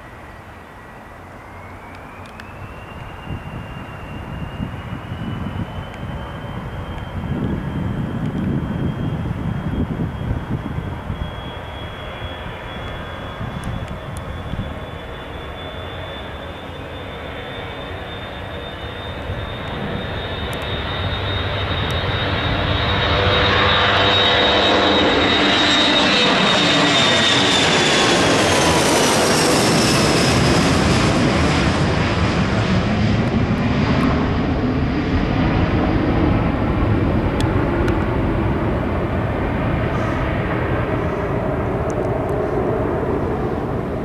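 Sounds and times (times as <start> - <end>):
jet engines roaring overhead: 0.0 - 44.0.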